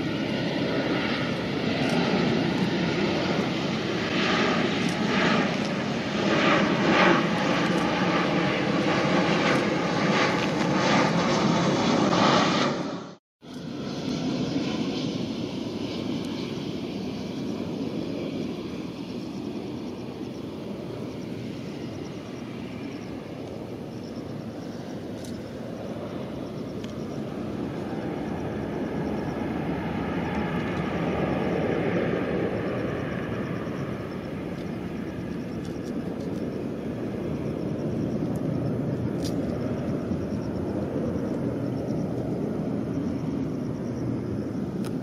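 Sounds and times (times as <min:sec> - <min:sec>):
jet engines distant rumble: 0:00.0 - 0:45.0.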